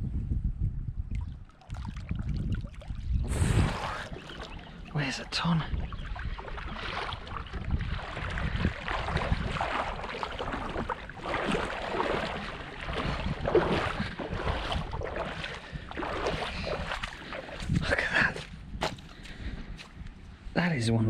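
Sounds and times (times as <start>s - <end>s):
wind buffeting microphone: 0.0s - 21.0s
water lapping against shore: 1.1s - 20.4s.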